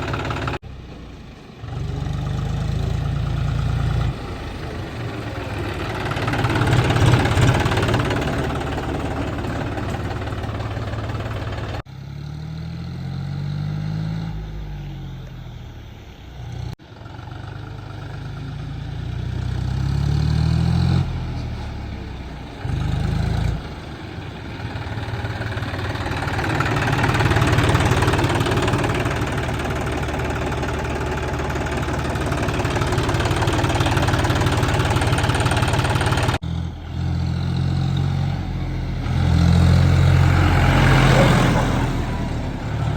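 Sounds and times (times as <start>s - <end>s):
tractor engine revving: 0.0s - 42.9s.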